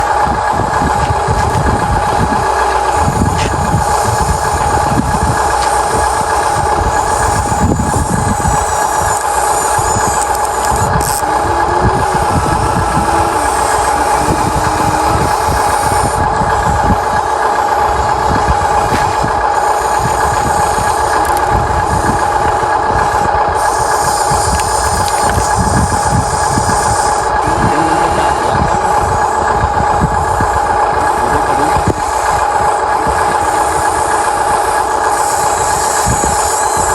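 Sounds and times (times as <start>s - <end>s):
electric motor whine: 0.0s - 36.9s
uneven low rumbling: 0.0s - 36.9s.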